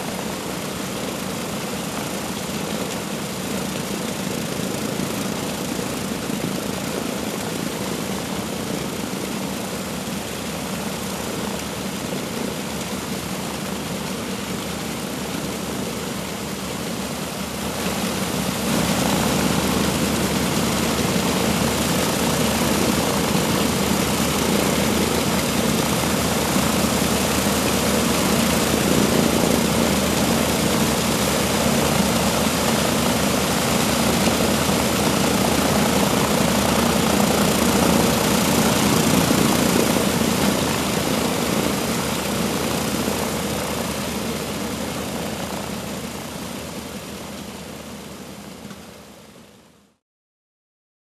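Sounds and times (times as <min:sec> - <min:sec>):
propeller noise: 0:00.0 - 0:49.3
radial aircraft engines running: 0:00.0 - 0:49.6.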